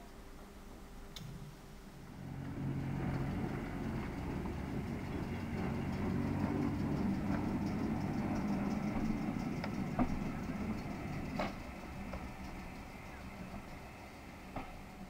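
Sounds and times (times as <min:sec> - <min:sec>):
low engine drone: 0:00.0 - 0:15.0
train wheels clicking: 0:02.2 - 0:15.0.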